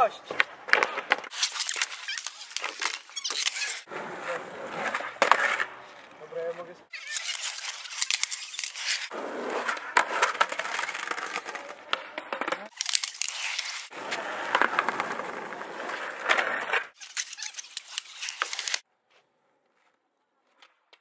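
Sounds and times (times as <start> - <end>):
skateboard wheels rolling on asphalt: 0.0 - 21.0
skateboard clicks and knocks: 0.2 - 18.9.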